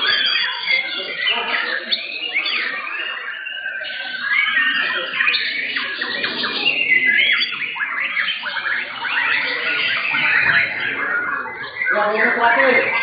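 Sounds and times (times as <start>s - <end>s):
birds singing whistled notes: 0.0s - 13.0s.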